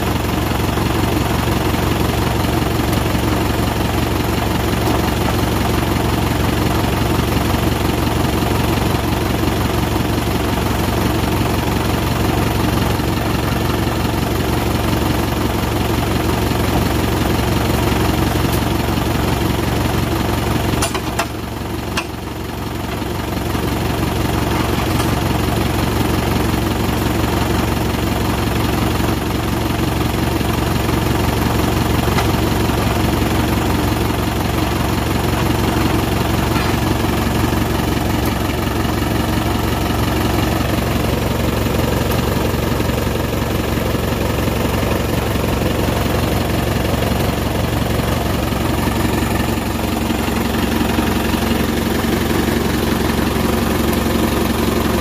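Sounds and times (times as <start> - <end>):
lorry engine idling: 0.0 - 55.0.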